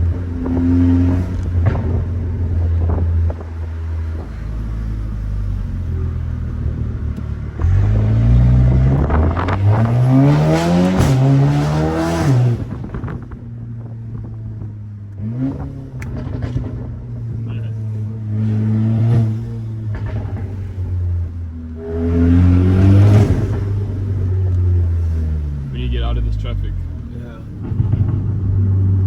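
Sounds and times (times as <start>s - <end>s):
car engine revving: 0.0s - 29.0s
car exhaust drone: 0.0s - 29.0s.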